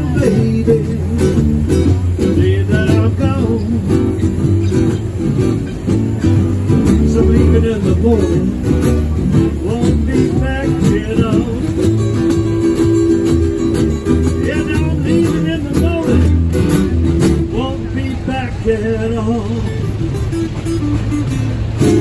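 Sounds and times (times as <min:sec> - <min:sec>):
man singing: 0:00.0 - 0:04.9, 0:06.7 - 0:20.1
acoustic guitars playing: 0:00.0 - 0:22.0
plucked upright bass: 0:00.0 - 0:22.0.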